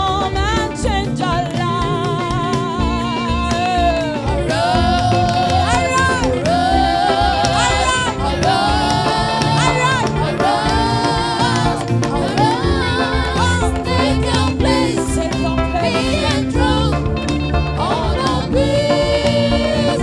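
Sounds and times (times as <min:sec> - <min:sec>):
band accompaniment: 0:00.0 - 0:20.0
voices singing gospel: 0:00.0 - 0:20.0.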